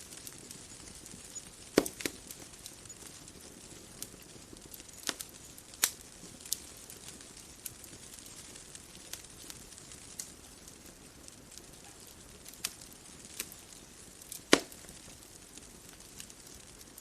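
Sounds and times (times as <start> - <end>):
bonfire crackling: 0.0 - 17.0
burning wood popping: 0.0 - 17.0
soft steady hiss: 0.0 - 17.0.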